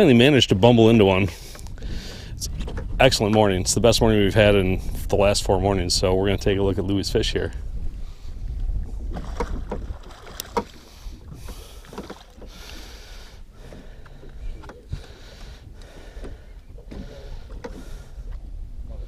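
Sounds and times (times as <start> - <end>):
water lapping against boat: 0.0 - 19.0.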